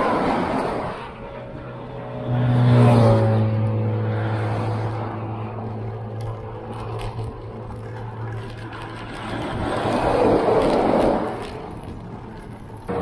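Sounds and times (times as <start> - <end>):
traffic and tyres droning: 0.0 - 13.0.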